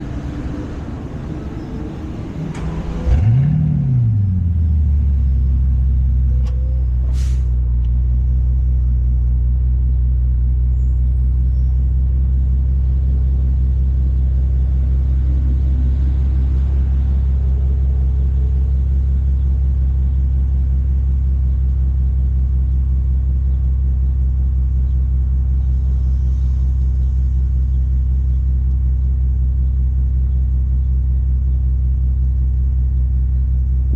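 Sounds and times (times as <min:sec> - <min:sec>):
car engine starting and idling: 0:00.0 - 0:33.9.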